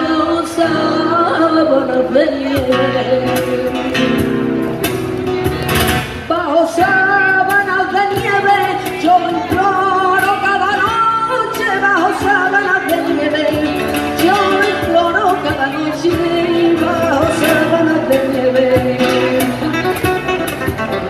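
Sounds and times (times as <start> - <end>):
woman singing into a microphone: 0.0 - 4.4, 6.2 - 20.1
flamenco guitar strumming: 0.0 - 21.0.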